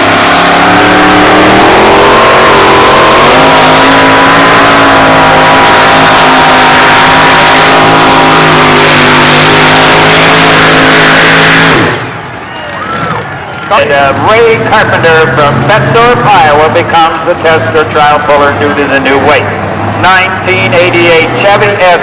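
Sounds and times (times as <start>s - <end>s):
truck engine at high revs: 0.0s - 12.4s, 13.0s - 22.0s.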